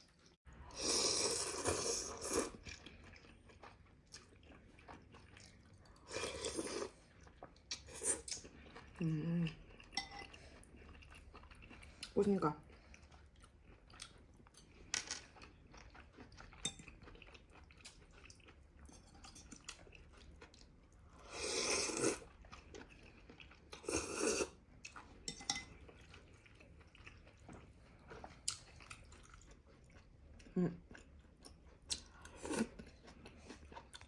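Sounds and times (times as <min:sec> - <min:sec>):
quiet chewing: 0:02.2 - 0:34.0.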